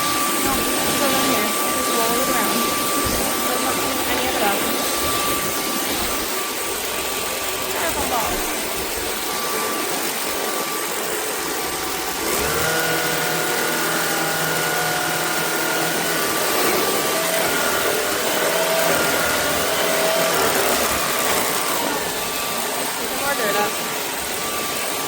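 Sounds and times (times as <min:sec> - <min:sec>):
cordless vacuum motor whine: 0:00.0 - 0:25.0.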